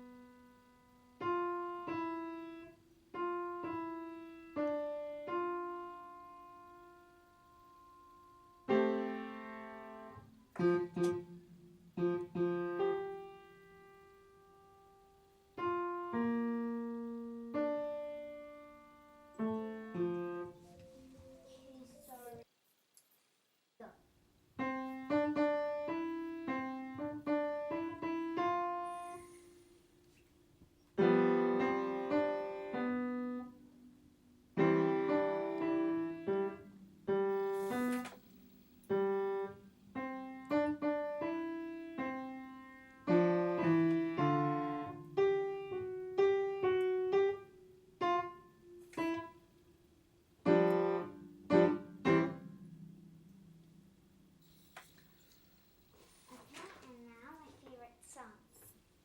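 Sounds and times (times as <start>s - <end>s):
solo piano playing slowly: 0.0s - 22.4s, 24.6s - 29.7s, 30.8s - 54.7s.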